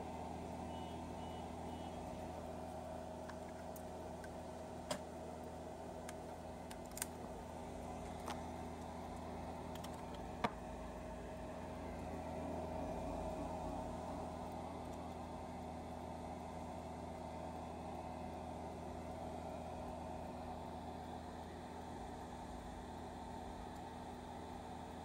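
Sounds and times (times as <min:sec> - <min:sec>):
electrical hum and hiss: 0:00.0 - 0:25.0.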